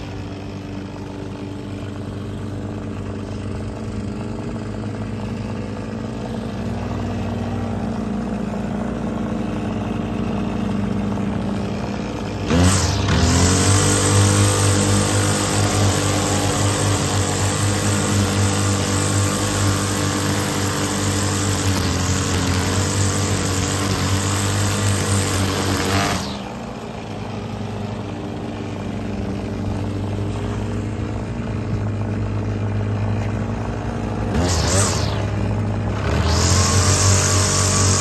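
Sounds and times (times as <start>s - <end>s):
string trimmer buzzing: 0.0s - 38.0s.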